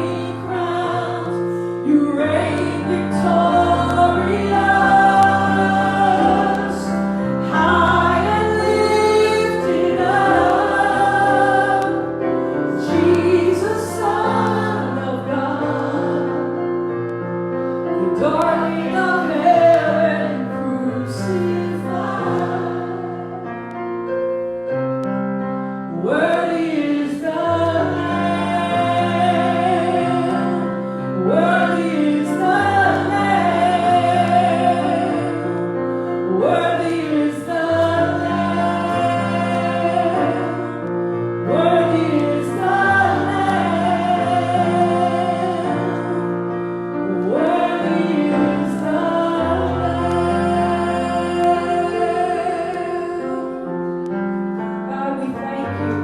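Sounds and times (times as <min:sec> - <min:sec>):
group of voices singing: 0:00.0 - 0:23.8, 0:25.9 - 0:54.2
keyboard chords: 0:00.0 - 0:56.0.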